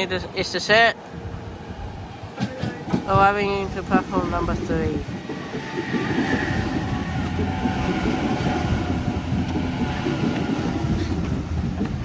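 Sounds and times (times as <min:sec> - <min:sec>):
train wheels rumbling on rails: 0:01.3 - 0:12.0.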